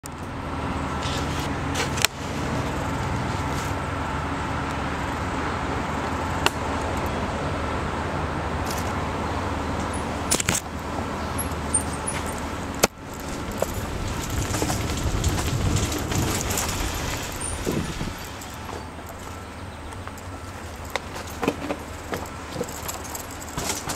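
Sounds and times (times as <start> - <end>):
trail riding rumble: 0.0 - 23.9.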